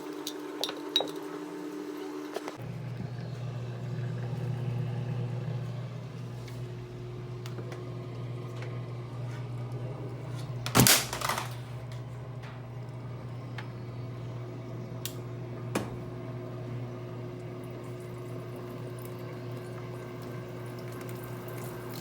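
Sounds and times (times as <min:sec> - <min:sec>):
laundry machine motor hum: 0:00.0 - 0:22.0.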